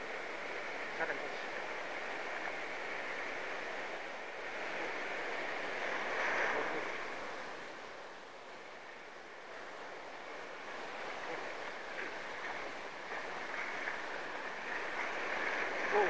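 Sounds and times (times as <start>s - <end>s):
surf breaking on beach: 0.0s - 16.0s.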